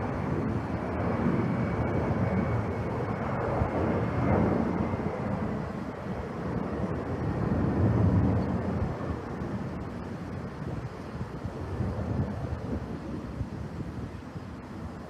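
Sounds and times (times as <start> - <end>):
distant jet engine rumble: 0.0 - 15.0
wind buffeting microphone: 0.0 - 15.0.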